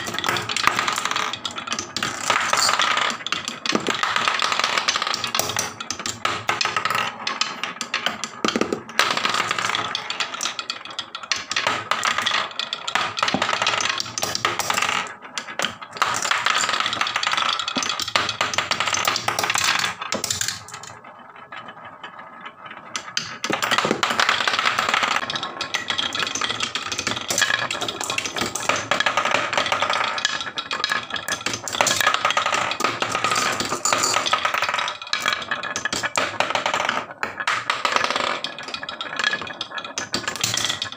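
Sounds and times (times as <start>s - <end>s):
marbles rattling down wooden run: 0.0s - 40.9s.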